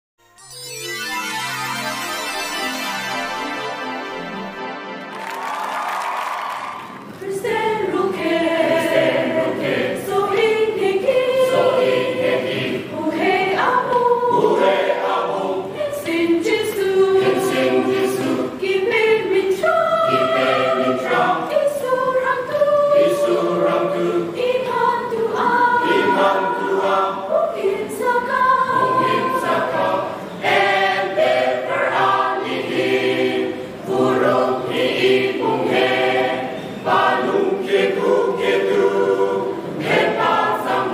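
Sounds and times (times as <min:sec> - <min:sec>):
choir singing a hymn a cappella: 0:06.6 - 0:40.9.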